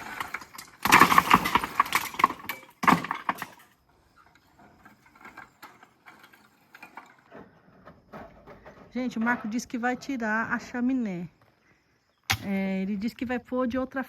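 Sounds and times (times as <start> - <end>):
stones and debris clattering: 0.0 - 11.4.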